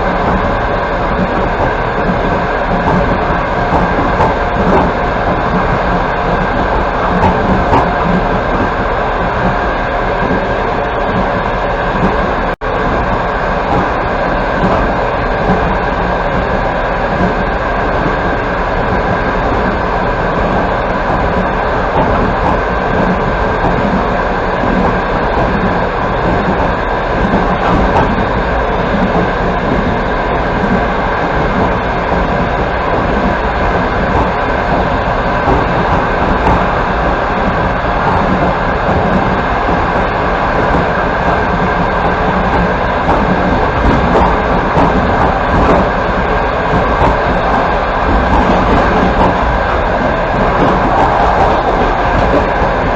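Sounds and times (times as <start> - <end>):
train carriage rumbling: 0.0 - 52.9
train wheels on rails: 0.0 - 52.9.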